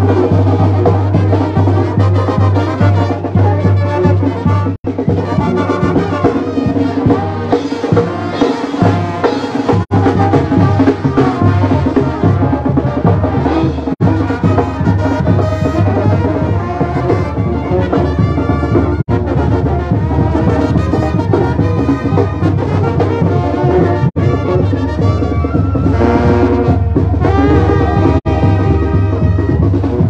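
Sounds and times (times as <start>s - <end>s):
latin brass band music: 0.0s - 30.0s.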